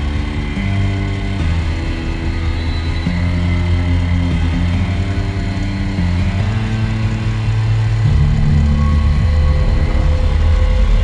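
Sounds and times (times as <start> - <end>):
low droning background music: 0.0 - 11.0.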